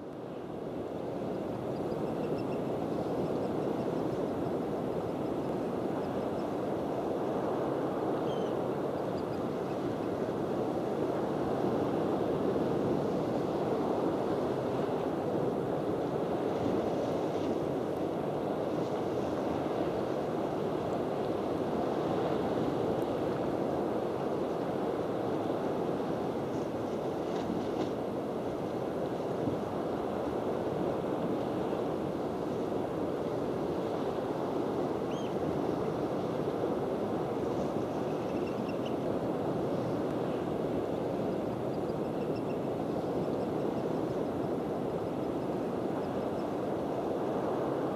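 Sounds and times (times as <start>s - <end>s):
wind: 0.0s - 47.9s.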